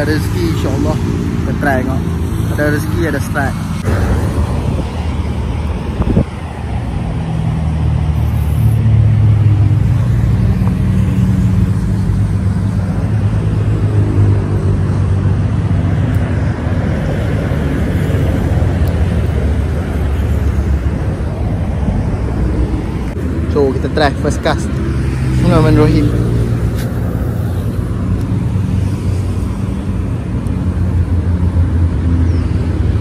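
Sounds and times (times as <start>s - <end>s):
highway traffic rumble: 0.0s - 33.0s.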